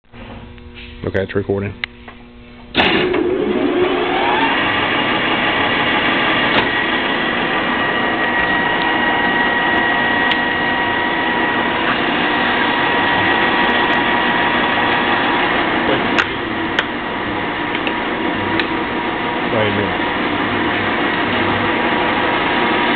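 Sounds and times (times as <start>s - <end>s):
high whining tones: 2.2s - 22.9s
lathe whirring: 2.7s - 22.9s.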